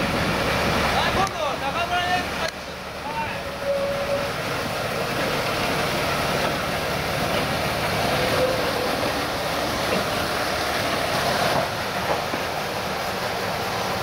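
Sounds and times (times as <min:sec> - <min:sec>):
rail motor car engine running: 0:00.0 - 0:14.0
wheels rumbling on rails: 0:00.0 - 0:14.0.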